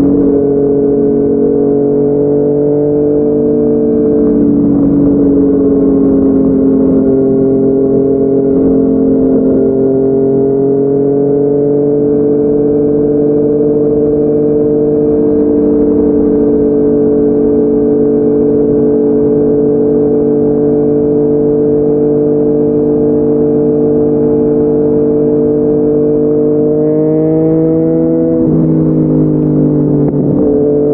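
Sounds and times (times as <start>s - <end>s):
motorcycle engine riding: 0.0s - 30.9s.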